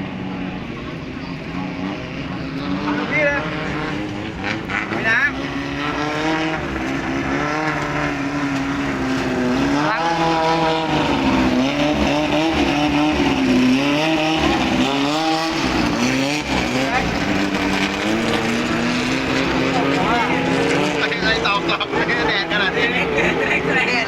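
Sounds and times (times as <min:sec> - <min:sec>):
racing boat engine revving: 0:00.0 - 0:24.0.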